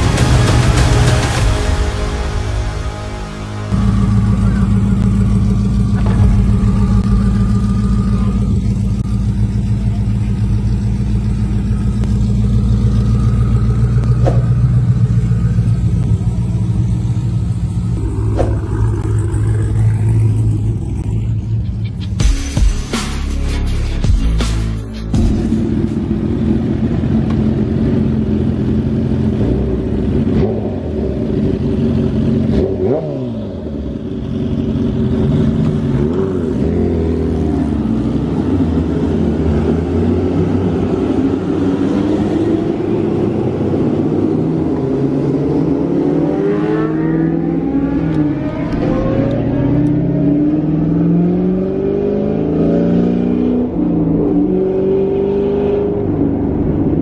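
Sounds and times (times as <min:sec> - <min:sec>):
car engines idling and revving: 0:00.0 - 0:57.0
car engine accelerating through gears: 0:03.7 - 0:22.2, 0:25.3 - 0:57.0.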